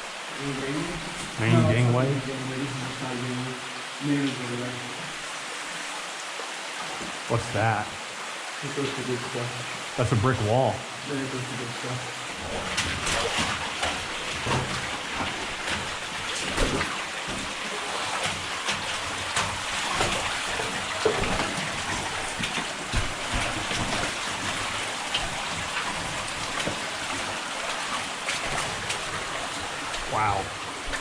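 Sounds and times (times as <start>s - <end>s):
running water hiss: 0.0s - 31.0s
water drips and splashes: 0.0s - 31.0s.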